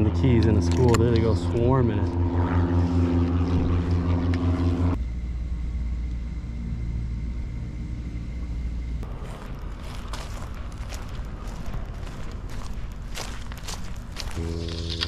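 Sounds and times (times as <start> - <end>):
low rumble: 0.0 - 15.0
motor droning: 0.0 - 15.0.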